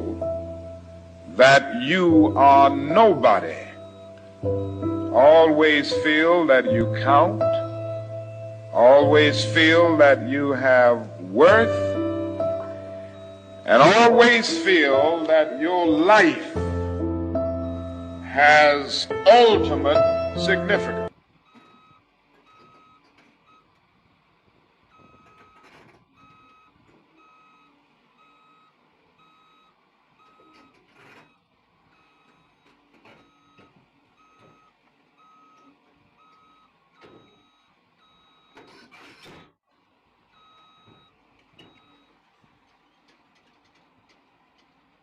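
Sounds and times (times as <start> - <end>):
reversing alarm beeps: 0.0 - 23.8, 24.9 - 39.3, 40.3 - 42.2.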